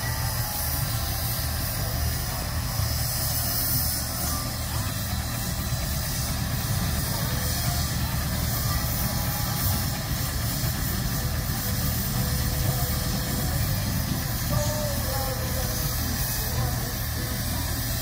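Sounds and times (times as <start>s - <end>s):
steam engine hissing and rumbling: 0.0s - 18.0s.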